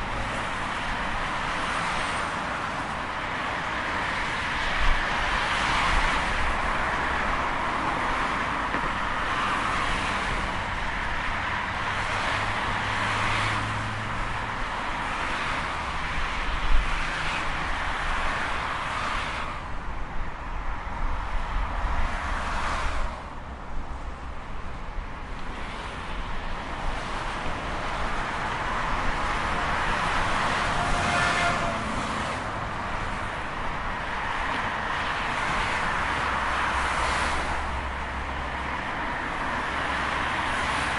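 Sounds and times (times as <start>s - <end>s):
highway traffic rushing: 0.0s - 40.9s.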